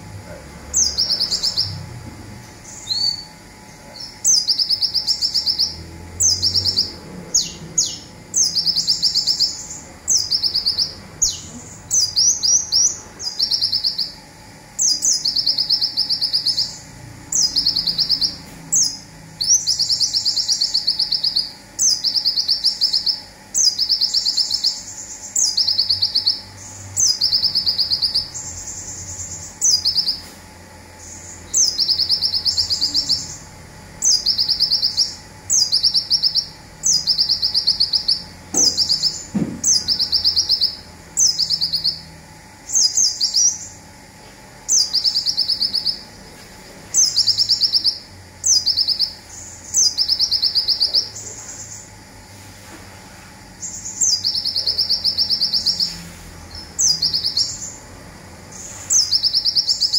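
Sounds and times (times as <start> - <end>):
sunbird buzzing trill song: 0.0 - 59.9.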